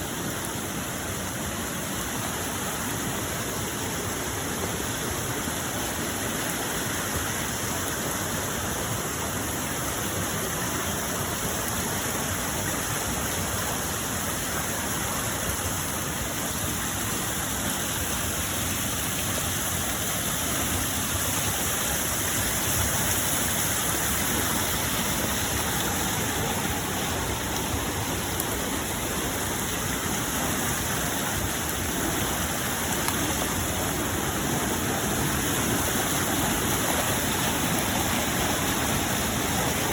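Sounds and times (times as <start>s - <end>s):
rushing floodwater: 0.0s - 39.9s.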